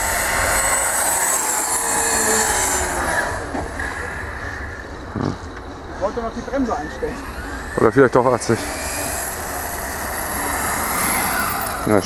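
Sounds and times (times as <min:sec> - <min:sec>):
electric motor whine: 0:00.0 - 0:05.5, 0:06.1 - 0:12.0
tyres rushing on asphalt: 0:00.0 - 0:12.0.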